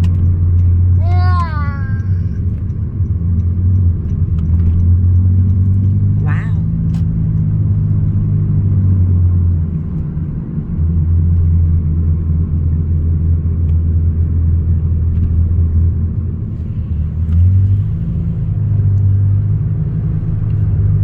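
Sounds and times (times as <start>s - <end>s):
car engine and road drone: 0.0s - 21.0s.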